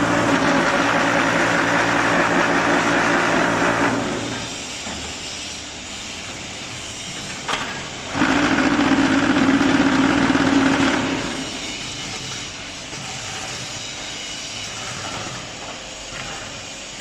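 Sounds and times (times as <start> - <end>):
block-making machine running: 0.0 - 5.3, 6.2 - 17.0
loud steady buzz: 0.0 - 17.0.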